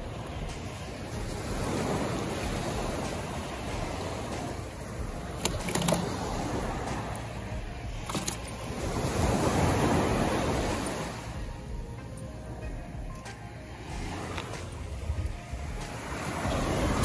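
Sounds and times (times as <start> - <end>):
surf washing on shore: 0.0 - 17.0.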